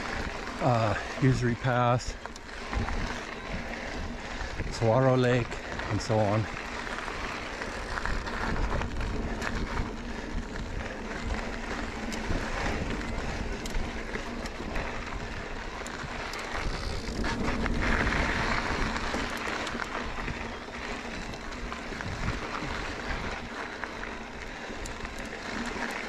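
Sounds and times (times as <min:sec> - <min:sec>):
wind on microphone: 0:00.0 - 0:23.5
bike clicks and rattles: 0:00.0 - 0:26.0
bike tyres rolling on gravel: 0:00.0 - 0:26.0.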